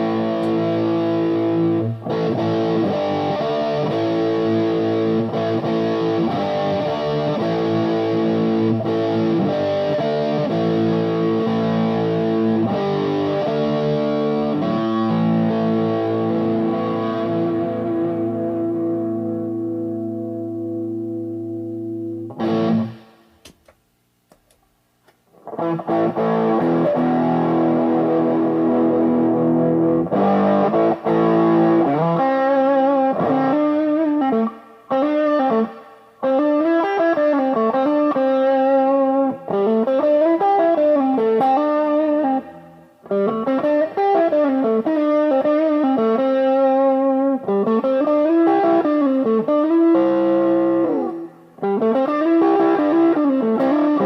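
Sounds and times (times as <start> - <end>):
overdriven electric guitar: 0.0 - 24.6, 25.2 - 54.0.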